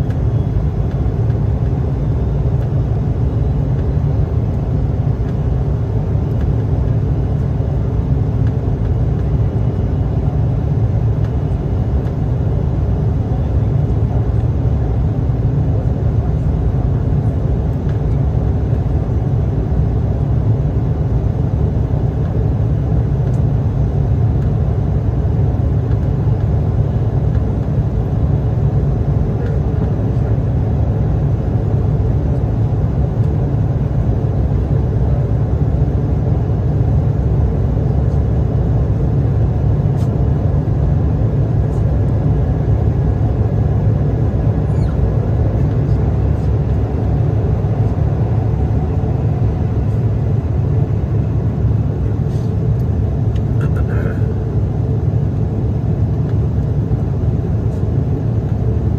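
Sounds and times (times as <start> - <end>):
jet engines droning: 0.0 - 58.9.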